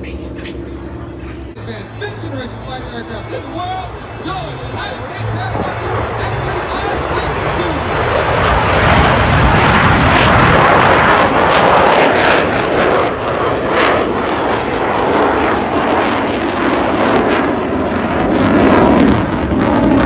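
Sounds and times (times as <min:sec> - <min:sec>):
airplane engine noise: 0:00.0 - 0:20.0.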